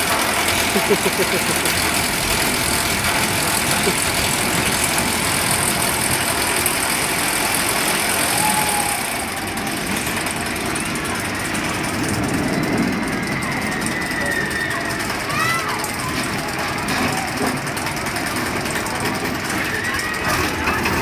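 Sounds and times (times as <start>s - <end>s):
roller coaster rolling on track: 0.0s - 21.0s.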